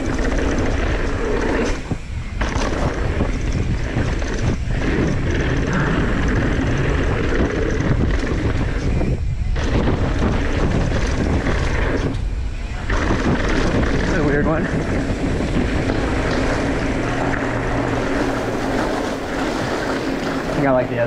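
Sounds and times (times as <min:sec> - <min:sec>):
bike rattling over bumps: 0:00.0 - 0:21.0
tyres rolling over dirt: 0:00.0 - 0:21.0
wind rush on microphone: 0:00.0 - 0:21.0.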